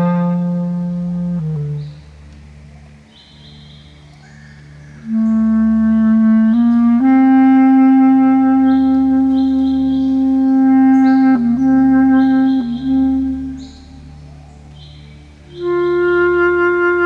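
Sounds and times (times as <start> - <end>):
bass clarinet: 0.0 - 17.0
bird calls: 1.8 - 7.0, 8.3 - 17.0.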